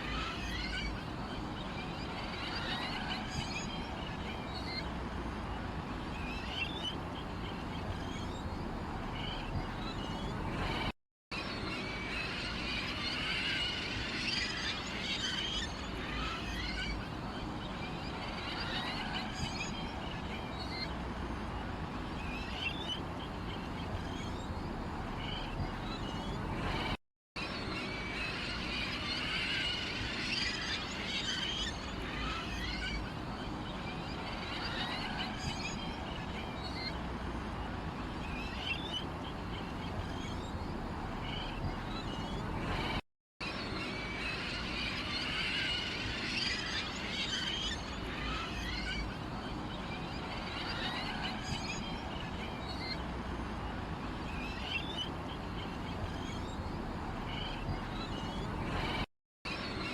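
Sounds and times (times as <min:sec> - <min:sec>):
small birds chirping: 0:00.0 - 0:10.9, 0:11.5 - 0:43.0, 0:43.6 - 0:59.9.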